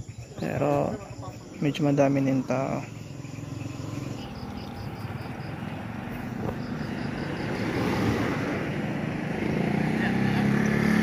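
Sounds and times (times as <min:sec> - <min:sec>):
car engine hum: 0:00.0 - 0:11.0
insects chirping in pulses: 0:00.0 - 0:11.0.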